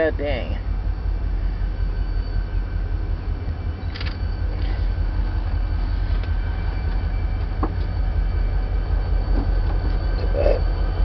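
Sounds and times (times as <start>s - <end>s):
diesel freight train rumble: 0.0s - 11.0s.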